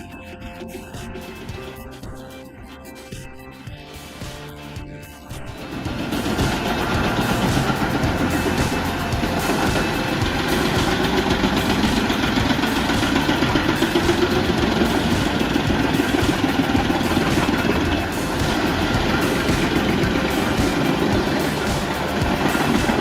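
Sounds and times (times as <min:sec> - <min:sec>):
wood chipper drone: 0:00.0 - 0:23.0.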